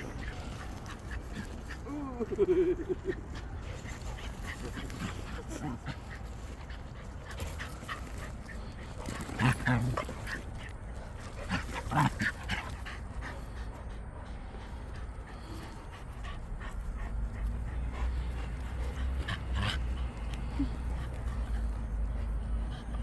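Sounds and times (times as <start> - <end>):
puppy panting: 0.0 - 23.0.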